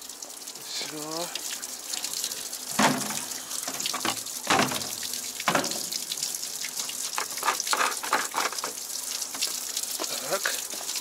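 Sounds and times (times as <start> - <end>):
water splashing: 0.7 - 11.0
tap water filling canister: 0.8 - 11.0.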